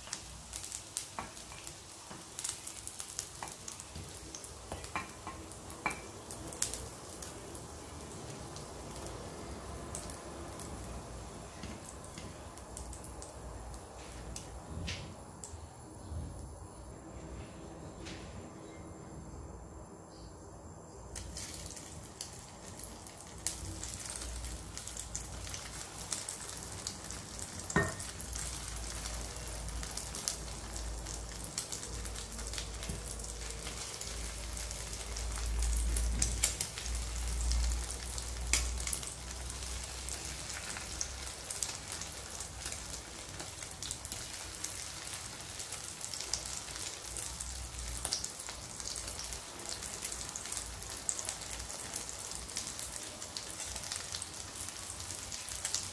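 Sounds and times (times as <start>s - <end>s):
meat sizzling in oil: 0.0s - 13.9s, 21.2s - 55.9s.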